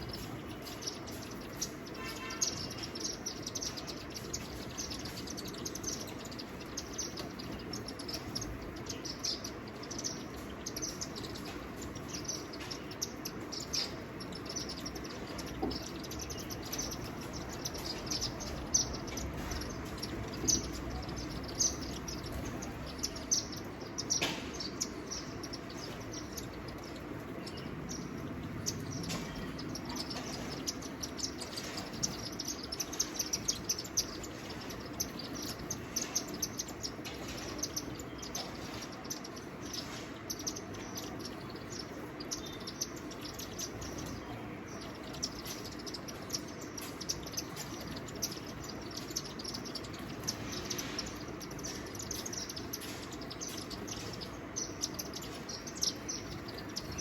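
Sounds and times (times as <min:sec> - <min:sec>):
birds chirping: 0:00.0 - 0:57.0
low outdoor background hum: 0:00.0 - 0:57.0.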